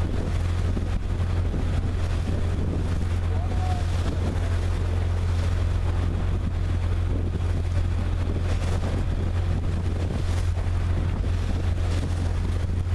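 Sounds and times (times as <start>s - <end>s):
motorboat engine drone: 0.0s - 12.9s
wind buffeting microphone: 0.0s - 12.9s.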